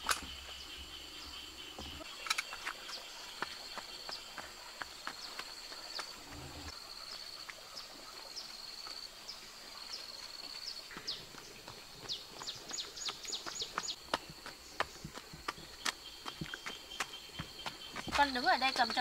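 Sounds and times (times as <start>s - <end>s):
insects trilling: 0.0s - 11.0s, 11.6s - 19.0s.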